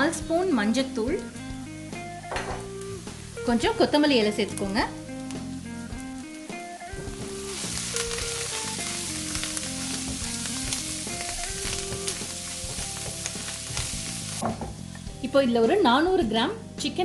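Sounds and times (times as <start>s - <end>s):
onions sizzling in oil: 0.0s - 16.3s
background music: 0.0s - 17.0s.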